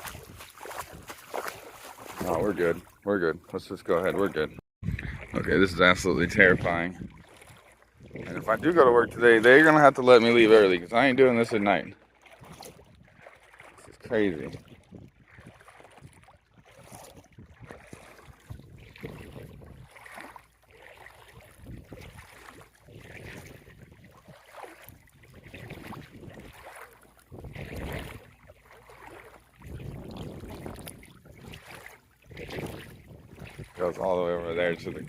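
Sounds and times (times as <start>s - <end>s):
water splashing around vehicle: 0.0s - 35.0s.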